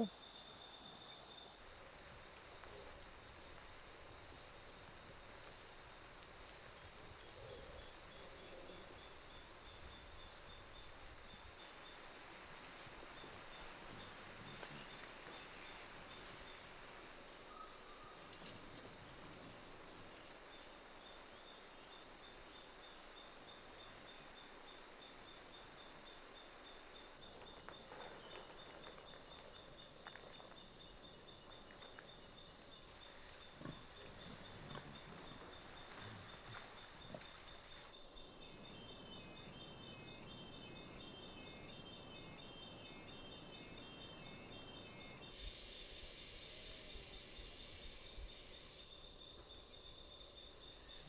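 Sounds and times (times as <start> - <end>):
steady low hiss: 0.0 - 51.0
thin high insect tone: 0.0 - 51.0.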